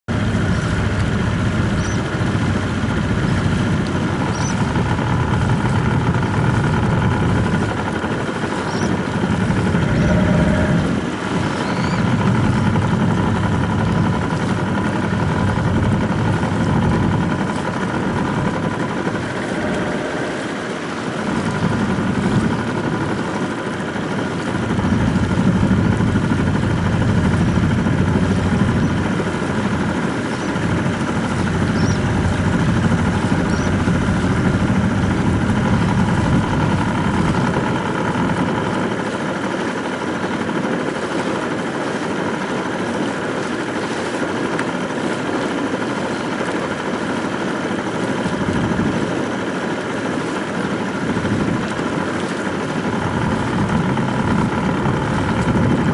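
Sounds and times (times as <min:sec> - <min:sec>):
motorboat engine running: 0:00.0 - 0:55.9.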